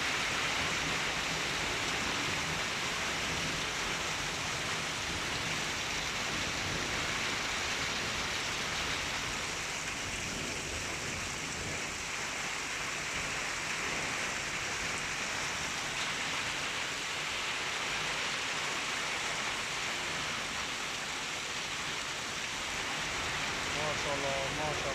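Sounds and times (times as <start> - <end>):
hail and rain pouring: 0.0 - 24.9.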